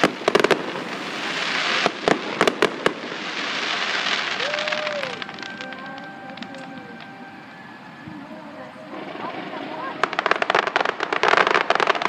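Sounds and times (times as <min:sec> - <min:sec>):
fireworks bangs and pops: 0:00.0 - 0:12.0
steady hiss: 0:00.0 - 0:12.0.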